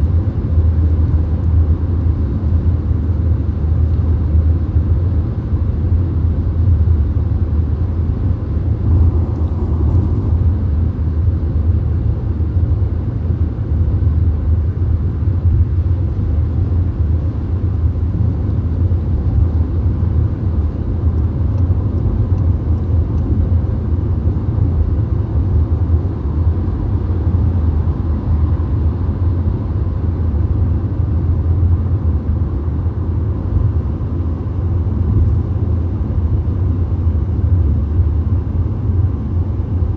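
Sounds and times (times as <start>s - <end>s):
road rumble inside car: 0.0s - 39.9s.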